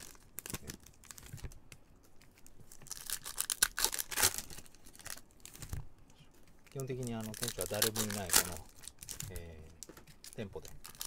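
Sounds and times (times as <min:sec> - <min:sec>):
foil wrapper crinkling and tearing: 0:00.0 - 0:01.5, 0:02.1 - 0:05.8, 0:06.6 - 0:11.0.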